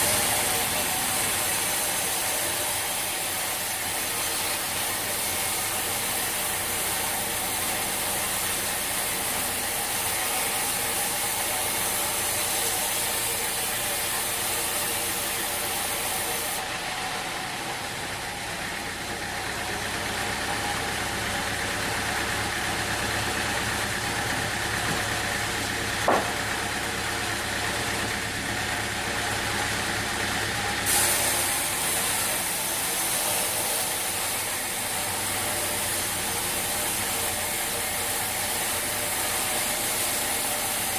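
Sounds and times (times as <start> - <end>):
high machinery hiss: 0.0 - 26.8, 29.4 - 40.9
sawmill machinery humming: 0.0 - 40.9.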